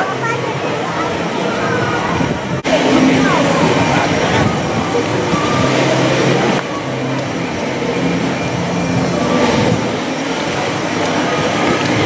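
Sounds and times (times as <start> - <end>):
carousel ride mechanical rumble: 0.0 - 12.0.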